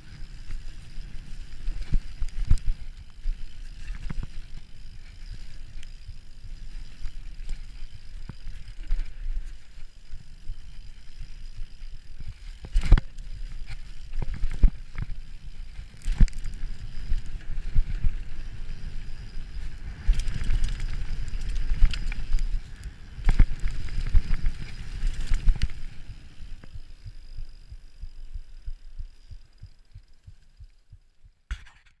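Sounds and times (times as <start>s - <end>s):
mountain bike rattling over dirt: 0.0s - 31.1s.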